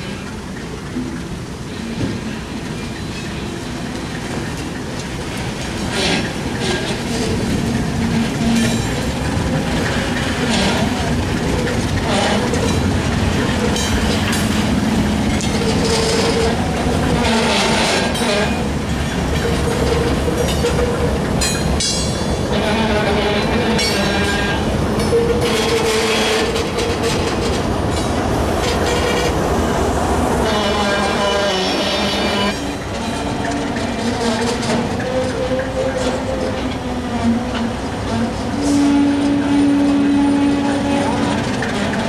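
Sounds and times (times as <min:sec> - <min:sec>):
diesel locomotive running: 0:00.0 - 0:42.0
train wheels clacking over rail joints: 0:00.0 - 0:42.0.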